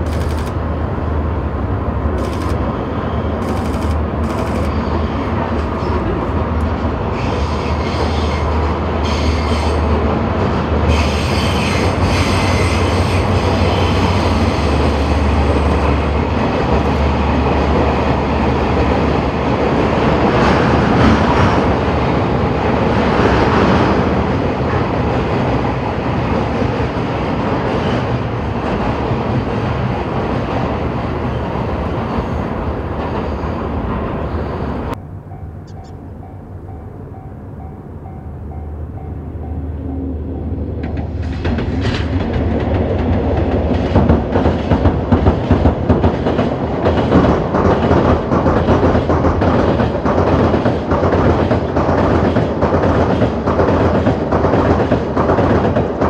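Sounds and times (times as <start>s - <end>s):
locomotive low drone: 0.0s - 51.2s.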